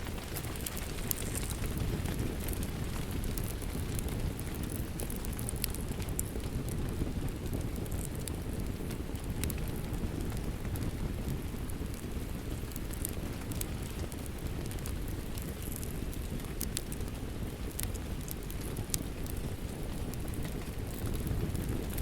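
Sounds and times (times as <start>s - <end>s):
steady rain: 0.0s - 22.0s
wood fire crackling: 0.0s - 22.0s.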